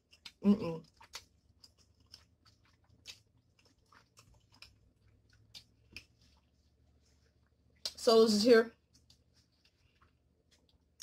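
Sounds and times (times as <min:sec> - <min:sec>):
chewing noodles: 0:00.0 - 0:08.0, 0:08.7 - 0:11.0.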